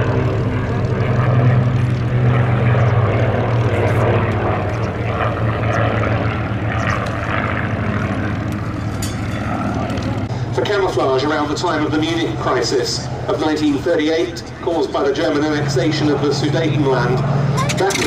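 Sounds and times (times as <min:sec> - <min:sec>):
propeller planes droning past: 0:00.0 - 0:18.0.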